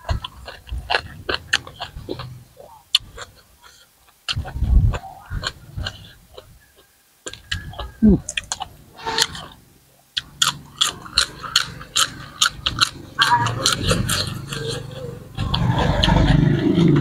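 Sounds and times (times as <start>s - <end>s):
chewing crunchy vegetables: 0.0s - 17.0s
mouth sounds: 0.0s - 17.0s.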